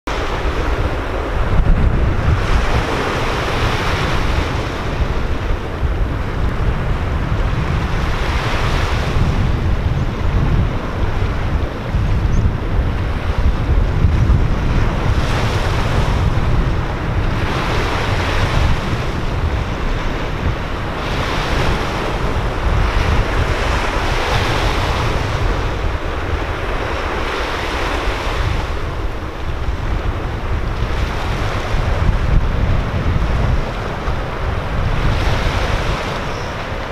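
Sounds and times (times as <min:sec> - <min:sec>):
sea waves breaking over rocks: 0:00.1 - 0:36.9
wind buffeting microphone: 0:00.1 - 0:36.9.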